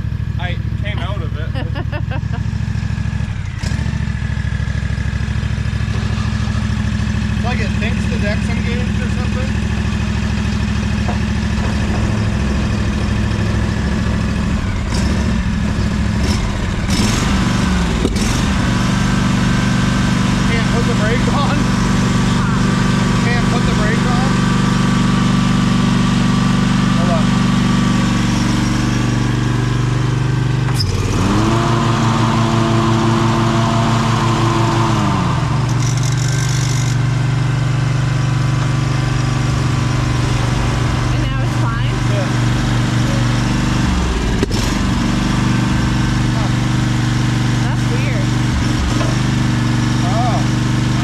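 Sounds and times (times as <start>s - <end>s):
lawn mower engine running: 0.0s - 51.0s.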